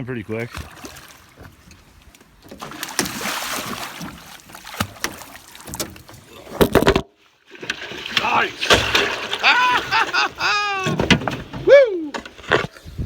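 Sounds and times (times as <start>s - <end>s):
knocks and scraping on a boat: 0.4s - 13.0s.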